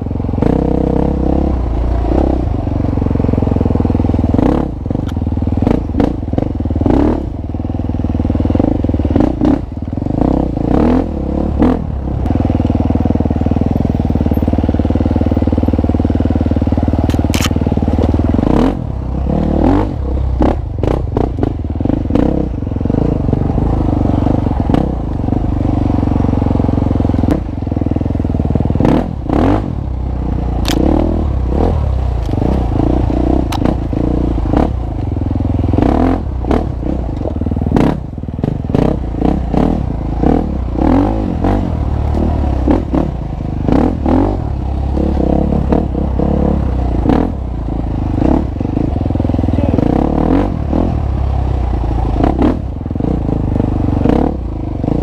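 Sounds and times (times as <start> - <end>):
dirt bike engine revving: 0.0 - 7.4, 8.1 - 55.0.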